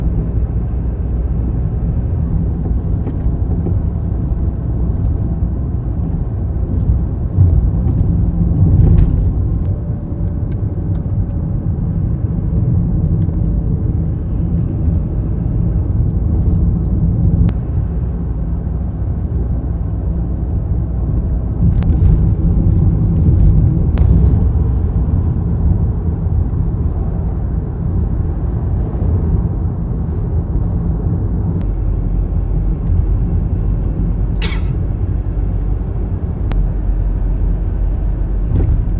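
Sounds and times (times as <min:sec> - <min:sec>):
moving car rumbling: 0:00.0 - 0:38.9.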